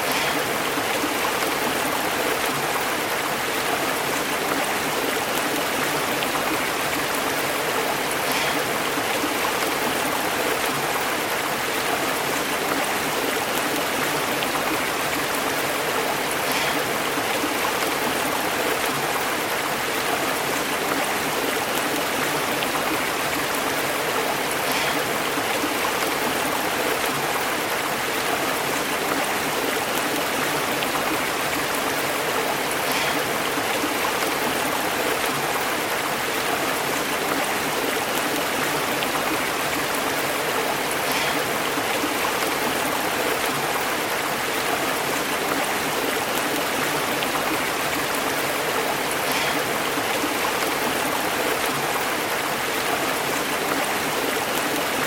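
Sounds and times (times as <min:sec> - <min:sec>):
stream burbling over rocks: 0:00.0 - 0:55.0.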